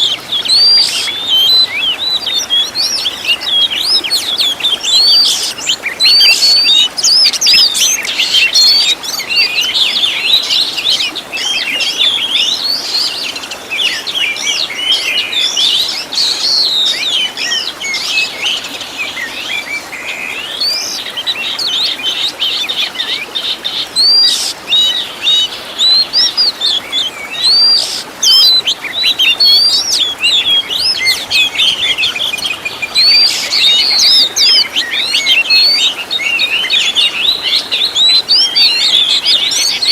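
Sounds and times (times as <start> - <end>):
bird song whistles and trills: 0.0 - 39.9.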